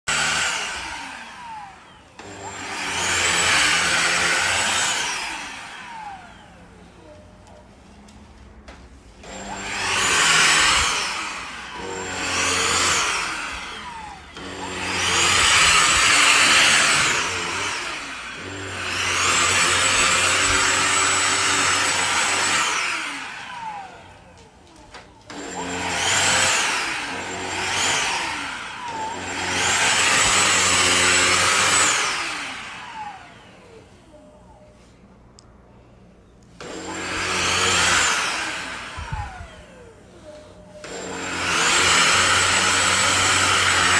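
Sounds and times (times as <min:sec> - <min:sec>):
vacuum cleaner motor whining: 0:00.0 - 0:43.9.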